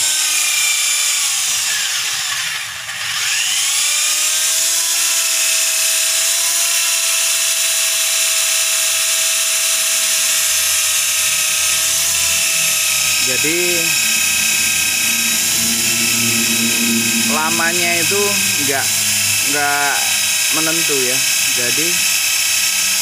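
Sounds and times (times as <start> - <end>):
electric drill whining: 0.0 - 23.0.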